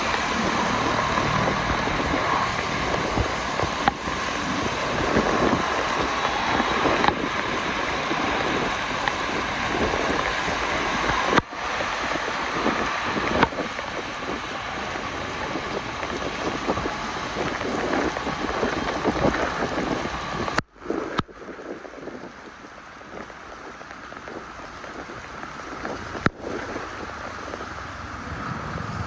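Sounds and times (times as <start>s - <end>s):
rain hissing: 0.0s - 29.0s
wind buffeting microphone: 0.0s - 29.0s.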